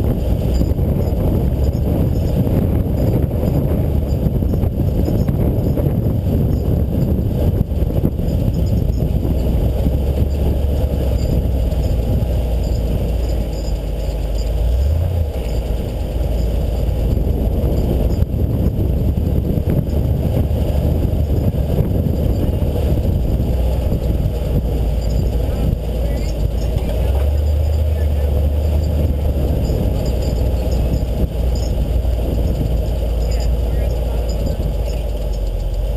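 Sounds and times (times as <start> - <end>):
off-road vehicle engine rumble: 0.0 - 35.9.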